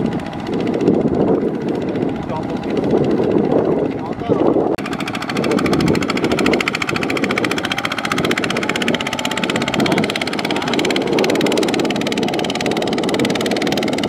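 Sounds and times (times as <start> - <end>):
diesel engine knocking: 0.0 - 14.0.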